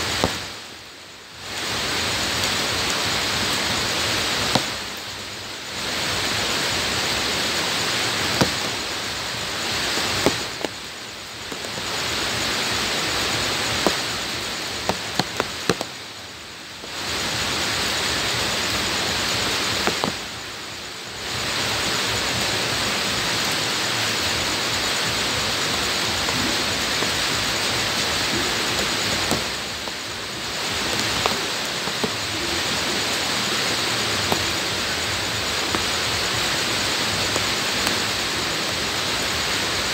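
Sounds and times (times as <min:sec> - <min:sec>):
rain falling on ground: 0:00.0 - 0:39.9
raindrops ticking close by: 0:00.0 - 0:39.9.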